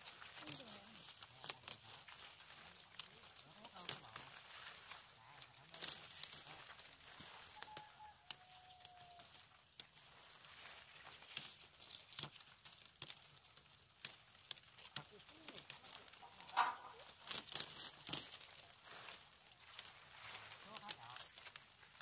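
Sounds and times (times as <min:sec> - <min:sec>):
leaves snapping and rustling: 0:00.0 - 0:22.0.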